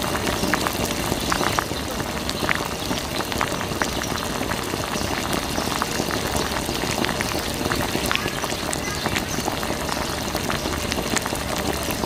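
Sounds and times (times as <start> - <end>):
water drips and patters: 0.0 - 12.0
water stream splashing: 0.0 - 12.0.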